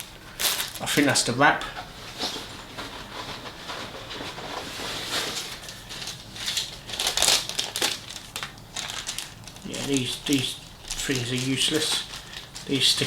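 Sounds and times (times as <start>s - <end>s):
paper wrapping crinkling: 0.0s - 13.0s.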